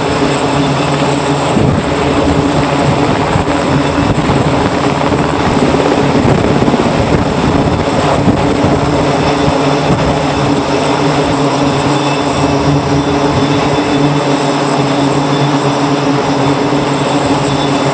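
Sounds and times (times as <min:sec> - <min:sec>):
engine drone: 0:00.0 - 0:17.9
helicopter rotor beating: 0:00.0 - 0:17.9.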